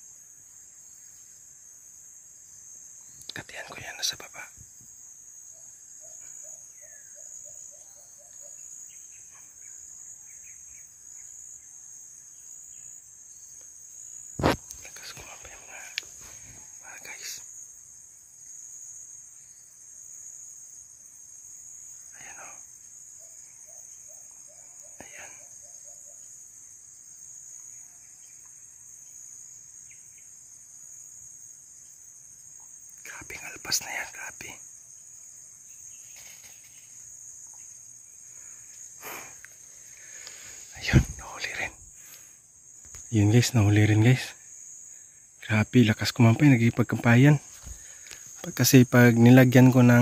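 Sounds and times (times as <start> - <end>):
crickets chirping: 0.0 - 50.0
insects droning: 0.0 - 50.0.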